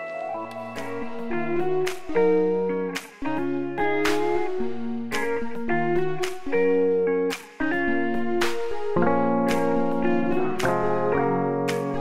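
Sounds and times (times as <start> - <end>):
instrumental music with plucked guitar: 0.0 - 12.0.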